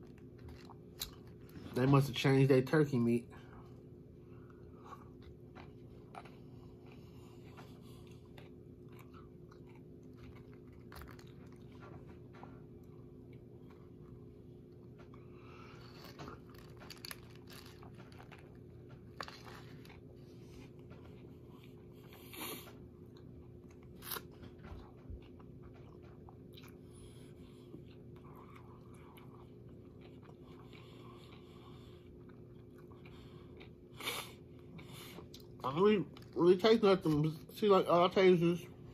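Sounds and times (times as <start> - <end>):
person chewing: 0.0 - 1.7, 4.4 - 36.4
steady low hum: 0.0 - 38.9.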